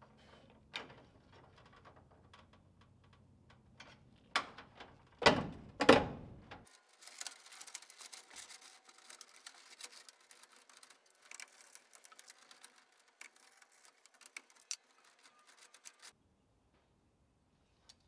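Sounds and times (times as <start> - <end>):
small clicks and rustling of wires: 0.2 - 5.2, 6.6 - 16.2, 17.8 - 18.0.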